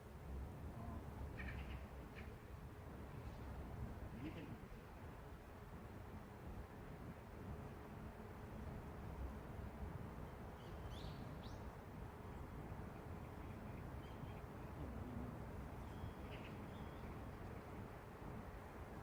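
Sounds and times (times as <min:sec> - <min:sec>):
faint city traffic rumble: 0:00.0 - 0:19.0.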